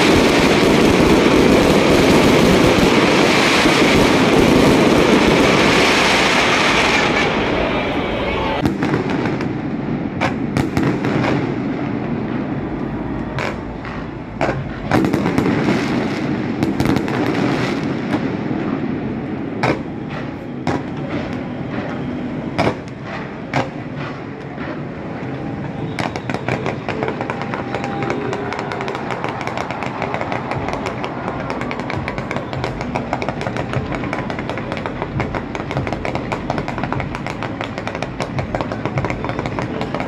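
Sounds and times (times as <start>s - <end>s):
fireworks bangs: 0.0s - 40.0s
fireworks crackling: 0.0s - 40.0s.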